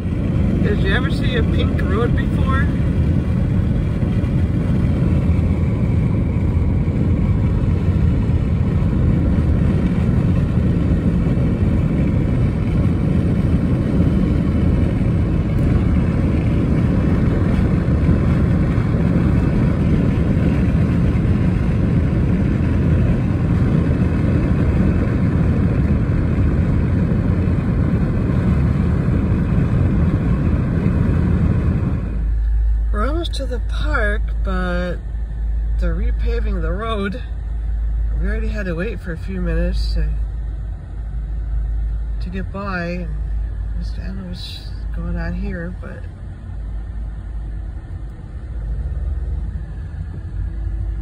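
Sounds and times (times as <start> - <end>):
tyre and road noise: 0.0 - 51.0.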